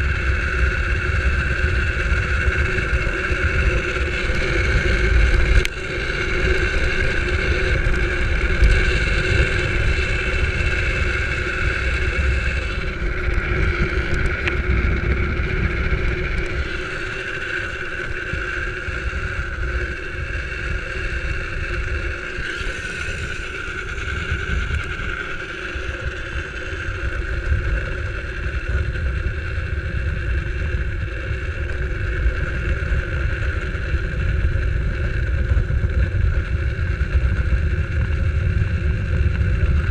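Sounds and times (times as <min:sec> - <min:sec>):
wheels humming on road: 0:00.0 - 0:39.9
wind rumble on microphone: 0:00.0 - 0:39.9.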